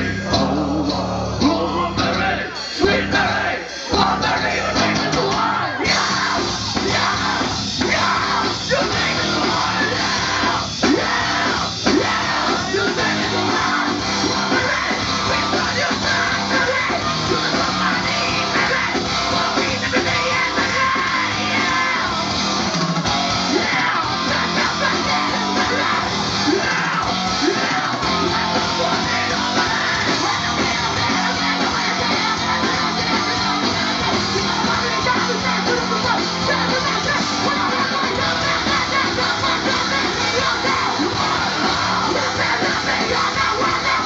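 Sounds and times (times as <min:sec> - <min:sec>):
heavy metal band playing: 0:00.0 - 0:44.0.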